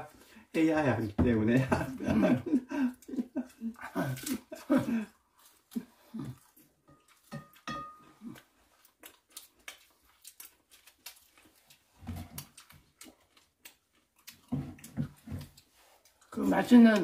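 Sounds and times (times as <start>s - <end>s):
chewing and mouth noises: 2.9s - 17.0s.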